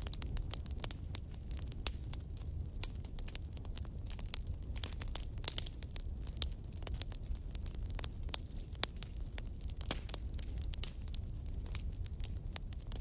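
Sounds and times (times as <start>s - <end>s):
fire crackling and popping: 0.0s - 13.0s
fire roaring: 0.0s - 13.0s.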